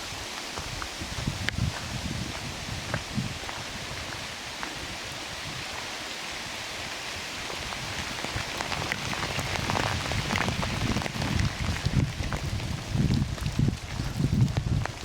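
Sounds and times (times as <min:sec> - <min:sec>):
rain falling: 0:00.0 - 0:15.0
raindrops pattering: 0:00.0 - 0:15.0.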